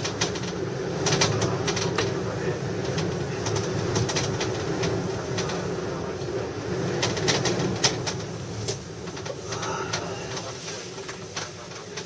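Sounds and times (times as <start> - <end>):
wind humming and moaning: 0.0 - 11.1
gondola cabin rattling: 0.0 - 12.0.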